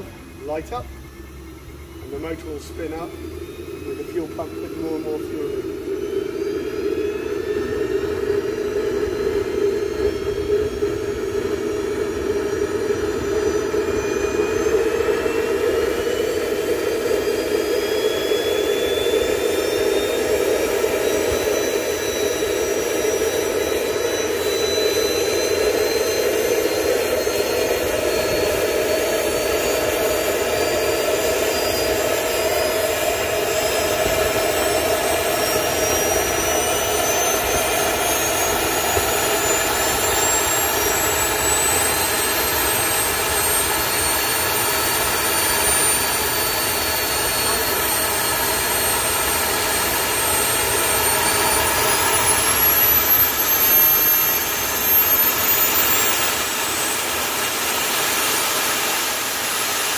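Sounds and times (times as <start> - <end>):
jet engine whine rising: 0.0 - 59.9.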